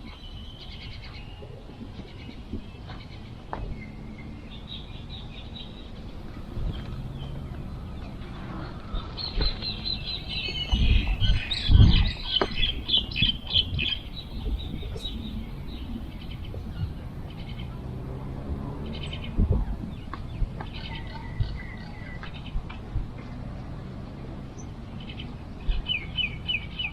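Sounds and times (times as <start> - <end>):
outdoor background hum: 0.0 - 26.9
small birds chirping: 0.0 - 26.9
low rumble: 1.8 - 25.8.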